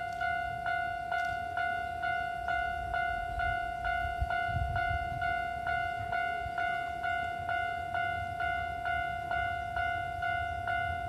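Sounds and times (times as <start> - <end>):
level crossing warning bell: 0.0 - 11.0.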